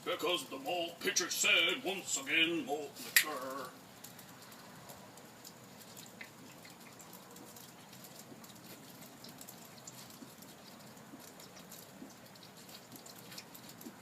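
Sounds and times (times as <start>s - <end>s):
drops ticking: 0.0s - 14.0s
light rain pattering: 0.0s - 14.0s.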